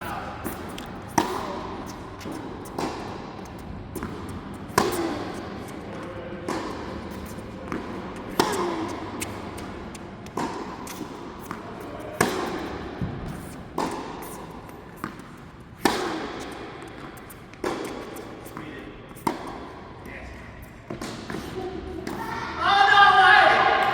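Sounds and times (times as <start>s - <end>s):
tennis balls hit by rackets: 0.0s - 20.0s, 20.9s - 22.4s.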